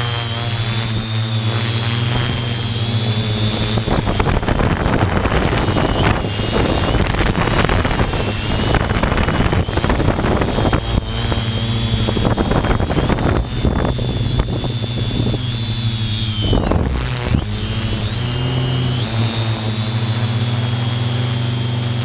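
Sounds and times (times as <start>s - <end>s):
drone motors whining: 0.0s - 22.0s
wind buffeting microphone: 2.0s - 20.2s.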